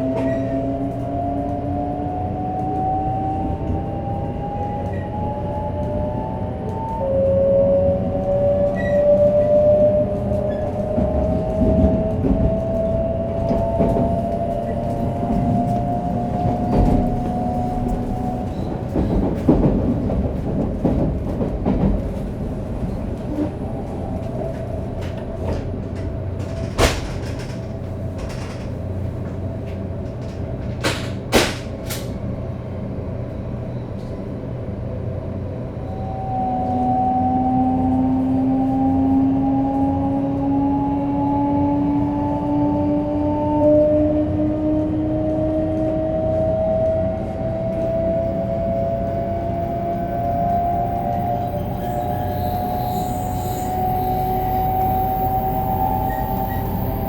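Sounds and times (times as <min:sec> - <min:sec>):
train running noise: 0:00.0 - 0:57.0.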